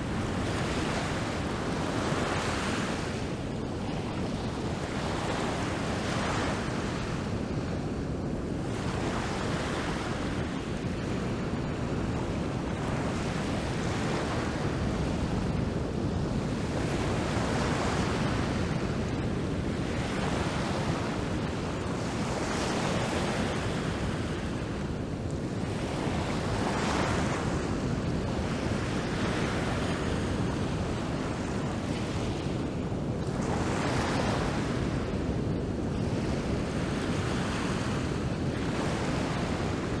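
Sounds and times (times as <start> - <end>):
waves rushing with foam: 0.0 - 40.0.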